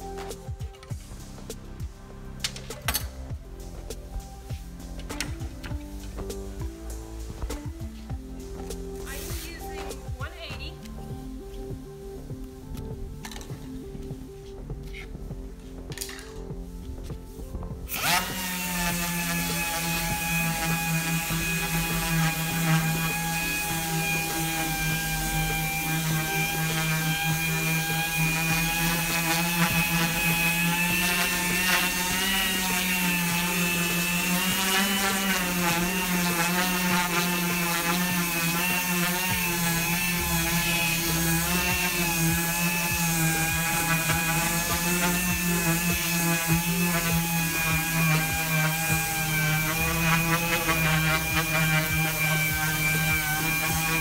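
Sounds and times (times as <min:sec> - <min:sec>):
orbital sander whining: 0:03.2 - 0:54.0.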